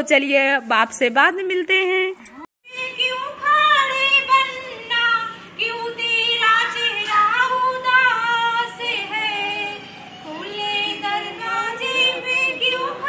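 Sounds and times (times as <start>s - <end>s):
women singing unaccompanied: 1.8s - 13.0s.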